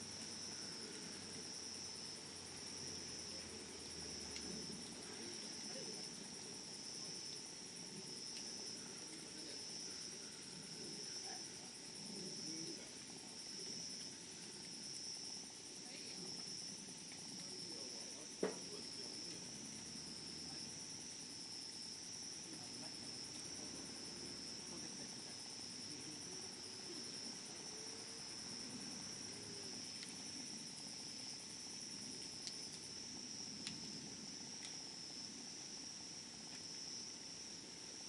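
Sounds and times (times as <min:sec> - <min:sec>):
insect trill: 0:00.0 - 0:38.0
wood fire crackling: 0:00.0 - 0:38.0.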